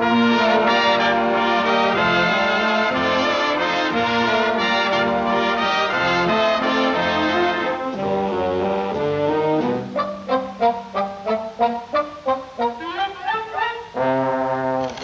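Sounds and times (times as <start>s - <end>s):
brass-led orchestral music: 0.0s - 15.0s.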